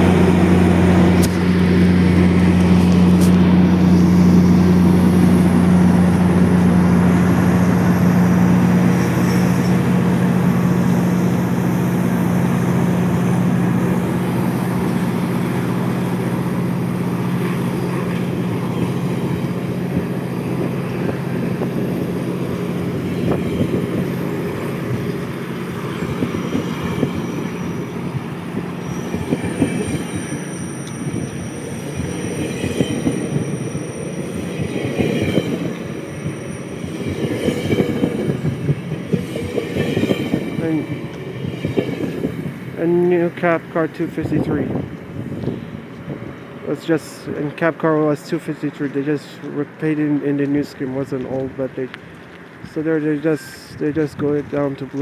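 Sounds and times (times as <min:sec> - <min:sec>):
high wheel squeal: 0:00.0 - 0:51.4, 0:52.0 - 0:53.8
train wheels clattering: 0:00.0 - 0:53.6
diesel locomotive engine hum: 0:00.0 - 0:55.0.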